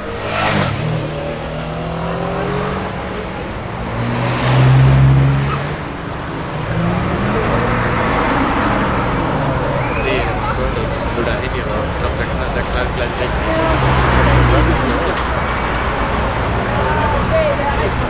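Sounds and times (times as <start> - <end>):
cars driving past: 0.0 - 18.0
engine rumble: 0.0 - 18.0.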